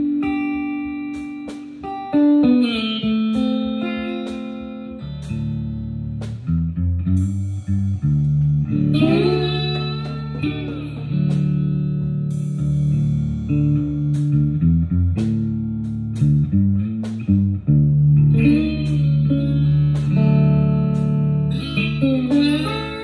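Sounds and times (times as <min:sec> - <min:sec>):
electric guitar held notes: 0:00.0 - 0:23.0.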